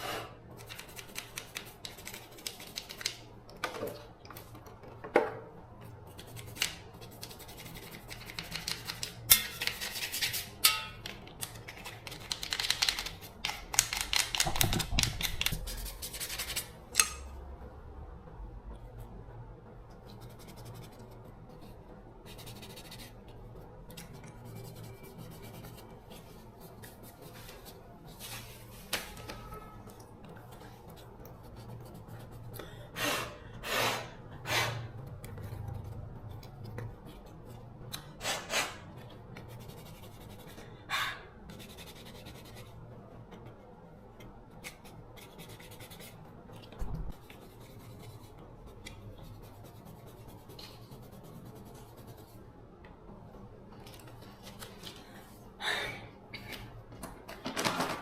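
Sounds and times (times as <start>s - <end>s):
low steady hum: 0.0s - 57.5s.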